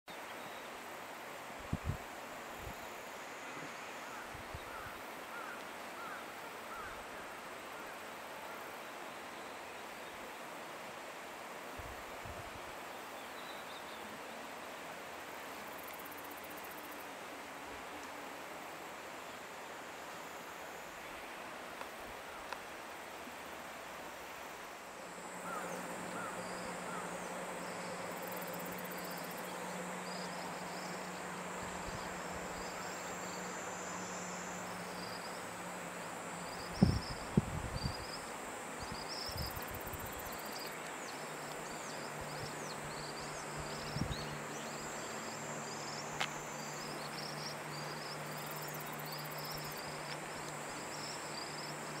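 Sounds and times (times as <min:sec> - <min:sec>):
insect chorus hiss: 0:00.1 - 0:52.0.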